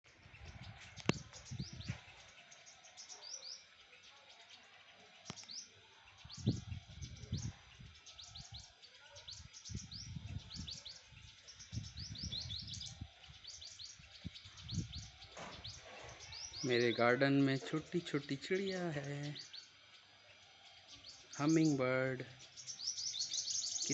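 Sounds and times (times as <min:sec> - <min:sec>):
small birds chirping: 0:00.1 - 0:23.9.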